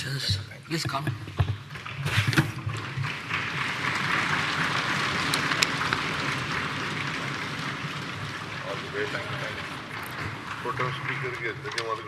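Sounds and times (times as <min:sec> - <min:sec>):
crowd applauding: 0:01.7 - 0:12.0.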